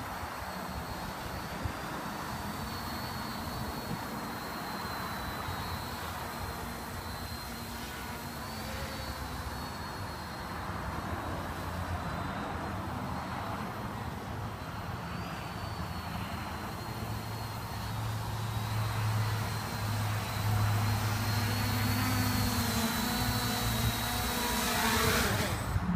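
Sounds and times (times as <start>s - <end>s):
quadcopter motors buzzing: 0.0s - 25.9s.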